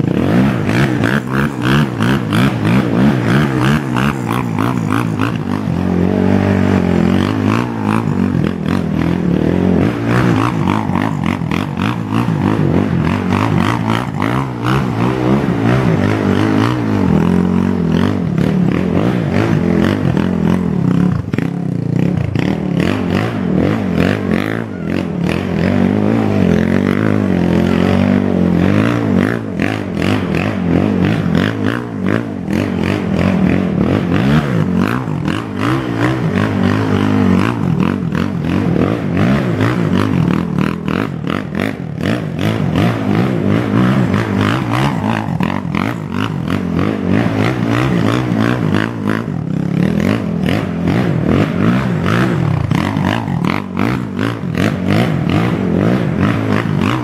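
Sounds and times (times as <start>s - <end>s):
quad engine revving: 0.0s - 57.0s
tyres churning dirt: 0.0s - 57.0s.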